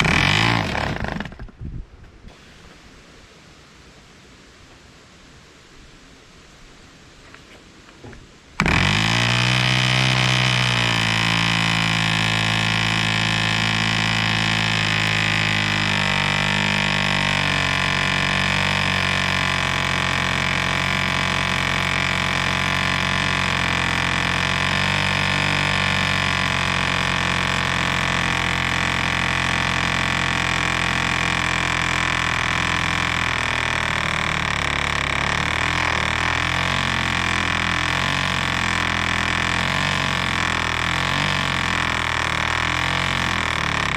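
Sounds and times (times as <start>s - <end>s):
model airplane engine buzzing: 0.0s - 1.6s, 8.6s - 43.9s.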